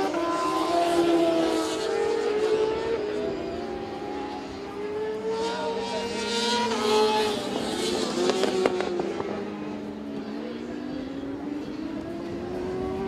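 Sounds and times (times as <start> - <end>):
motorcycle engines revving past: 0.0 - 13.0.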